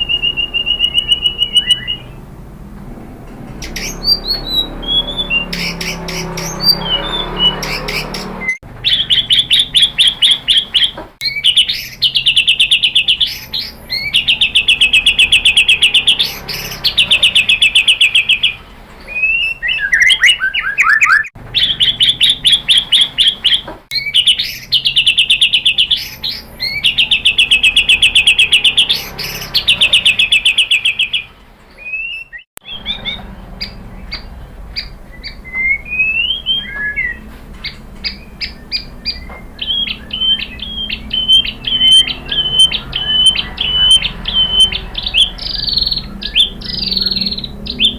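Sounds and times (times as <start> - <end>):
bird whistled notes: 0.0 - 2.2, 3.6 - 47.9
bird singing fast trills: 0.0 - 2.3, 3.6 - 47.9.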